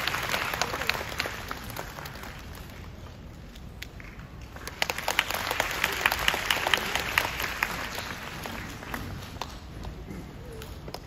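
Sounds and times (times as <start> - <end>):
audience applauding: 0.0 - 3.0, 4.0 - 10.0.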